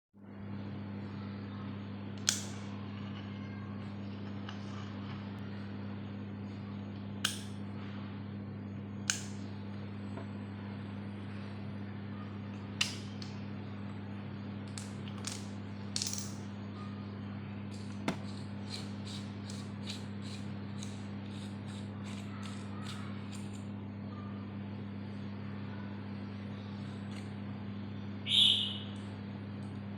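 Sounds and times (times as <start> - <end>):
low electrical hum: 0.2 - 29.9.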